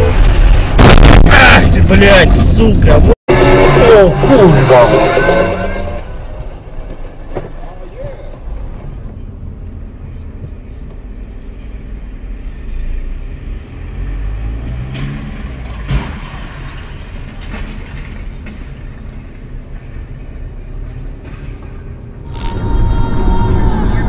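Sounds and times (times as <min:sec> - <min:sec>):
car engine and road rumble: 0:00.0 - 0:05.3, 0:05.9 - 0:24.0.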